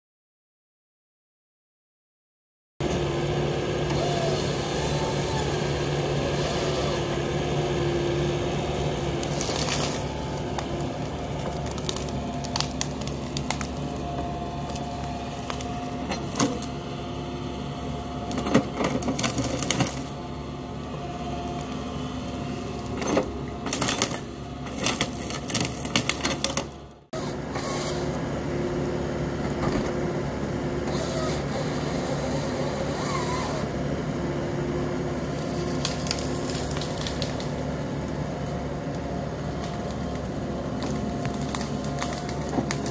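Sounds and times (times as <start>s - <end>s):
diesel engine running: 2.8s - 42.9s.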